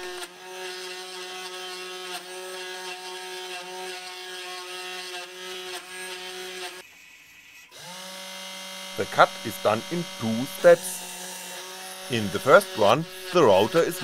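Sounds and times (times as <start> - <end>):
router milling plastic: 0.0 - 14.0.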